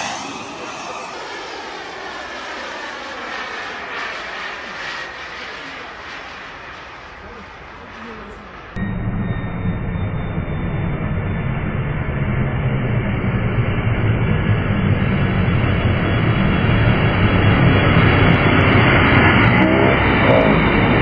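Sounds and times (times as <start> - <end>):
jet flying low: 0.0 - 21.0.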